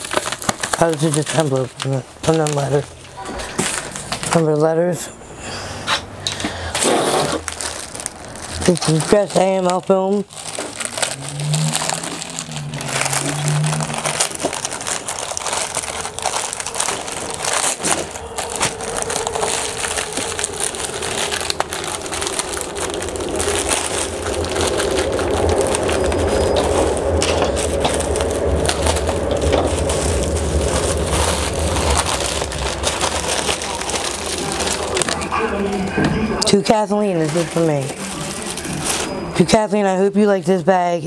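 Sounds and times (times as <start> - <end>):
plastic bag crinkling: 0.0 - 4.7, 6.3 - 40.3.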